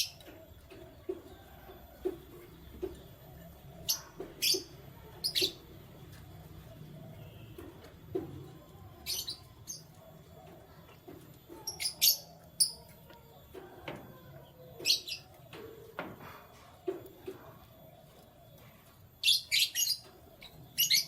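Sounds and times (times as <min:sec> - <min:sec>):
canaries chirping: 0:00.0 - 0:21.0.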